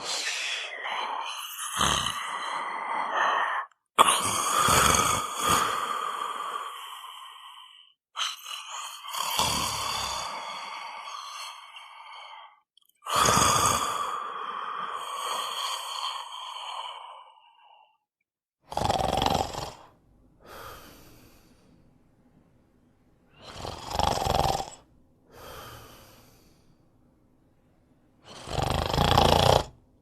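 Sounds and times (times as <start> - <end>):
person snoring: 0.0 - 18.0, 18.6 - 21.7, 23.4 - 26.7, 28.2 - 29.8.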